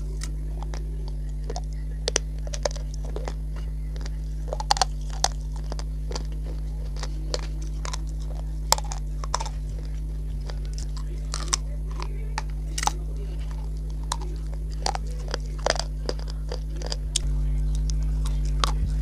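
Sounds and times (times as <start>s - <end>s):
crisp crunching and chewing: 0.0s - 19.0s
steady low hum: 0.0s - 19.0s.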